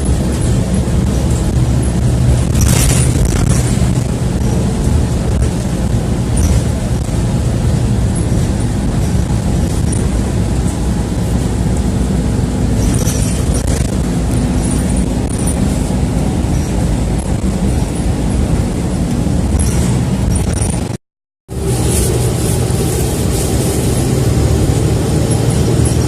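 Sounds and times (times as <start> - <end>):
bus engine rumble: 0.0 - 26.0
road noise: 0.0 - 26.0.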